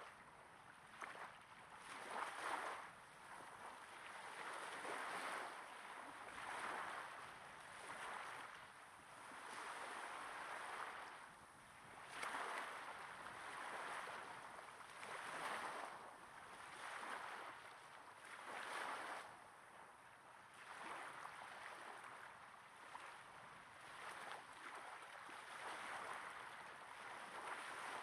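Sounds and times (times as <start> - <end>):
small waves breaking on sand: 0.0 - 28.0.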